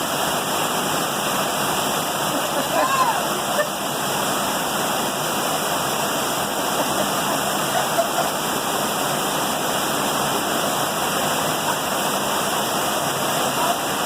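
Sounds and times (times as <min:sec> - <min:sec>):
heavy rain: 0:00.0 - 0:14.0
running floodwater: 0:00.0 - 0:14.0.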